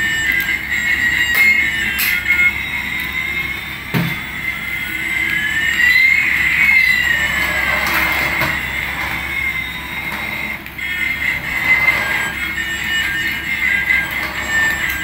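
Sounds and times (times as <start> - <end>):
steady high electronic tone: 0.0 - 15.0
toy rising and falling tones: 0.0 - 15.0.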